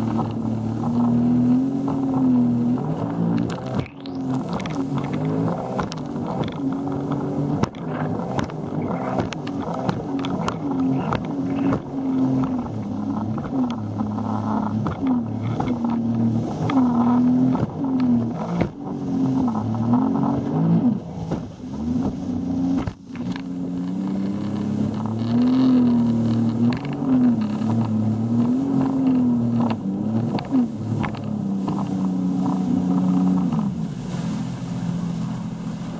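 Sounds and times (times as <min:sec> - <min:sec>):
motorboat engine running: 0:00.0 - 0:35.9.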